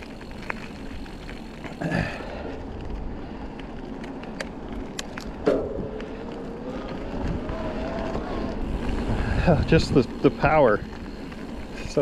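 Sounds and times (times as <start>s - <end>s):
bike clicks: 0.0s - 12.0s
tyre rumble on asphalt: 0.0s - 12.0s
wind: 0.0s - 12.0s.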